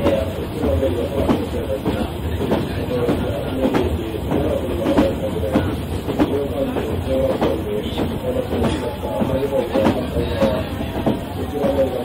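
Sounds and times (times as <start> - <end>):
train coach rumble: 0.0 - 12.0
wheels clicking over rail joints: 0.0 - 12.0.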